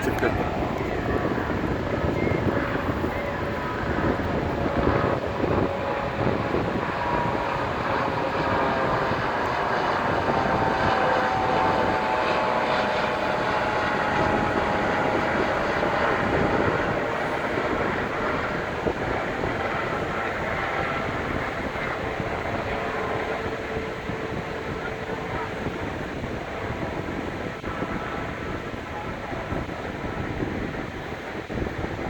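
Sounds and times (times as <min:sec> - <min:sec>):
low-flying aircraft drone: 0:00.0 - 0:32.0
steady rushing noise: 0:00.0 - 0:32.0.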